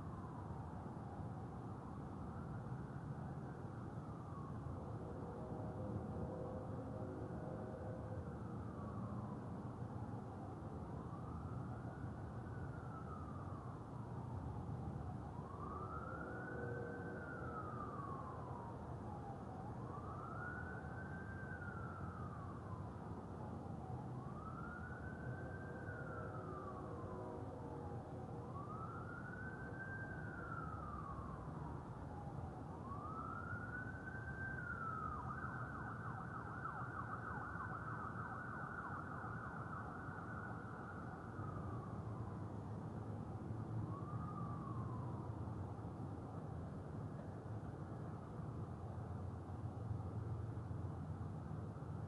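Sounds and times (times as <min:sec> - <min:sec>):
emergency siren wailing: 0:00.0 - 0:52.0
low background noise: 0:00.0 - 0:52.0.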